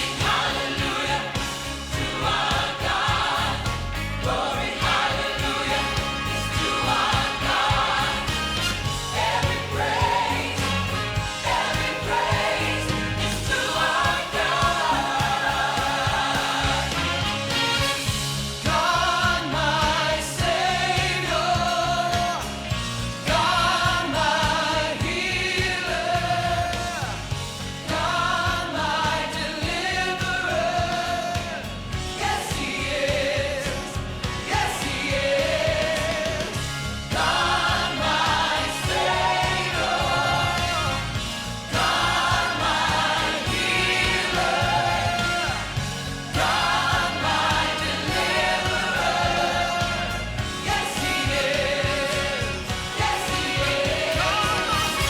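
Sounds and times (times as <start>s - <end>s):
instrumental accompaniment: 0.0s - 25.3s, 31.9s - 55.0s
group singing a hymn: 0.0s - 55.0s.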